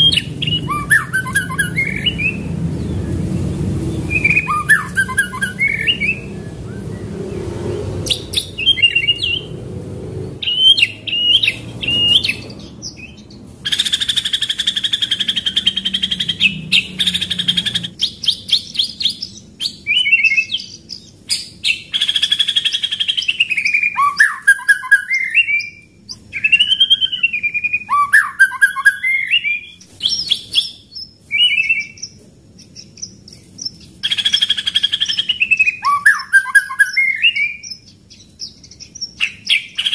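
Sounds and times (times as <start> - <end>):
bird singing whistled phrases: 0.0 - 3.2, 4.0 - 7.3, 8.1 - 9.5, 10.4 - 33.4, 34.0 - 39.9.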